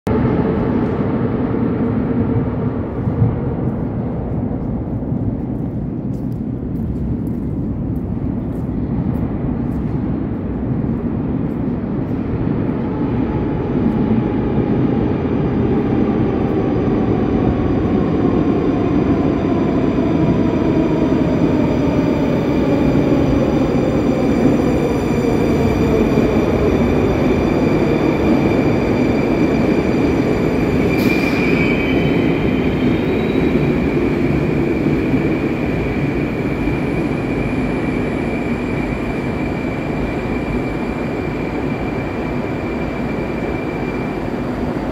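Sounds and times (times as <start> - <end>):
train wheels rumbling: 0.1 - 44.9.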